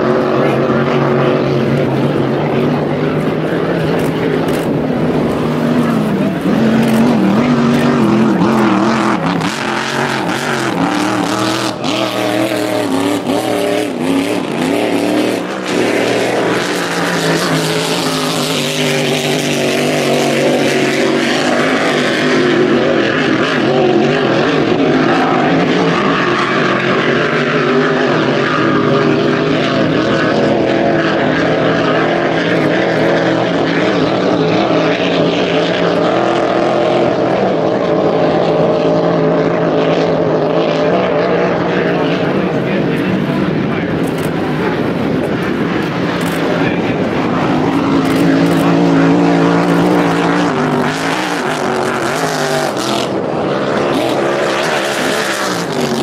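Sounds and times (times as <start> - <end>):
boat engine running flat out: 0.0 - 56.0.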